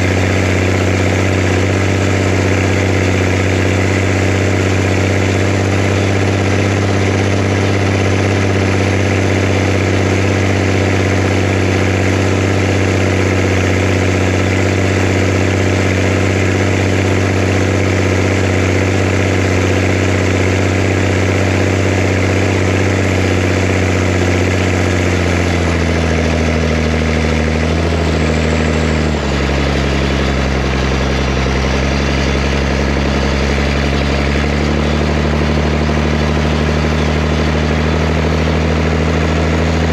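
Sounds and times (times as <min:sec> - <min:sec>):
tractor diesel engine: 0:00.0 - 0:39.9.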